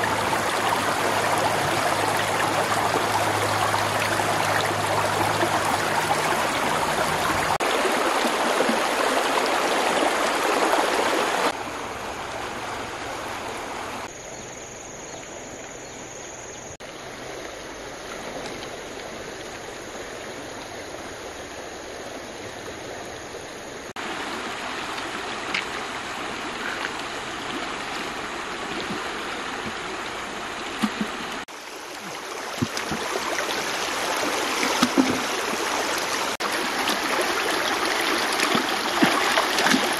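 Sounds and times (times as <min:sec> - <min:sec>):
river water burbling over stones: 0:00.0 - 0:14.1, 0:16.7 - 0:39.9.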